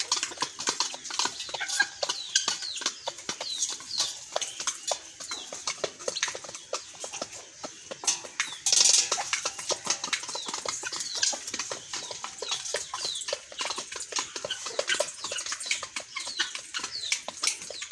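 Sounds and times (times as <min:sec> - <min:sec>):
birds pecking grain from metal bowls: 0:00.0 - 0:17.9.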